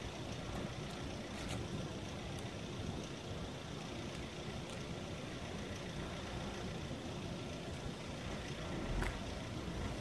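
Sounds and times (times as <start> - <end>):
low traffic rumble: 0.0 - 10.0.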